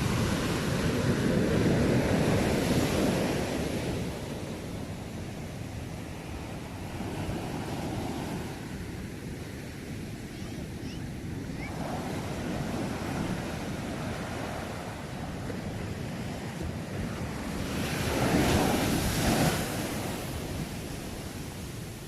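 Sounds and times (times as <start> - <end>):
sea waves washing onto shore: 0.0 - 9.8, 11.1 - 22.0
wind rumble on microphone: 0.0 - 22.0.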